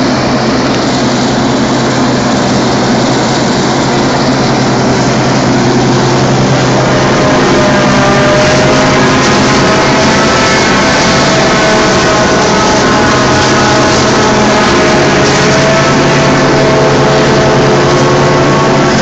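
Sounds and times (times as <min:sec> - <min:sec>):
harvester machine drone: 0:00.0 - 0:19.0.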